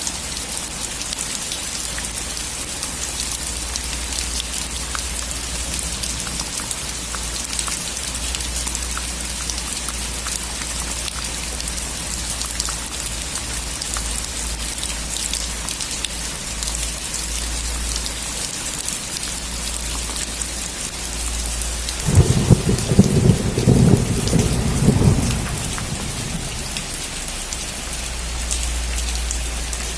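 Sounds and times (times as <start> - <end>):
steady rain hiss: 0.0 - 29.9
raindrop ticks: 0.1 - 29.9.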